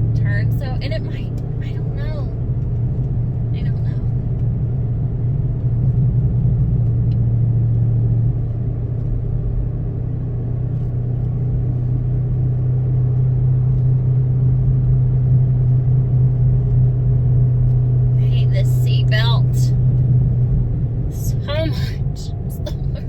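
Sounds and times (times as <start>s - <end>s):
car engine drone: 0.0s - 23.0s
tyre and road noise: 0.0s - 23.0s.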